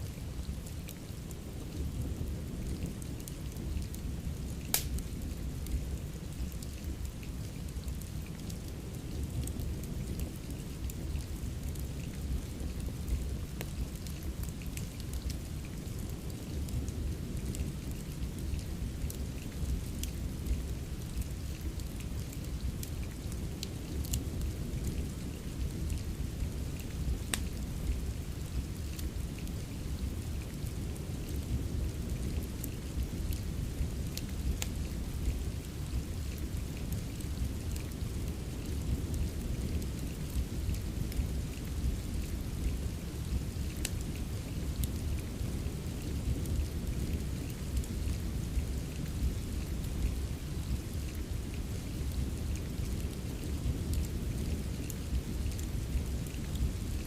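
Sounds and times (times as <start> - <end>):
continuous low rumble: 0.0 - 57.0
steady rain: 0.0 - 57.0
wood fire crackling: 0.0 - 57.0.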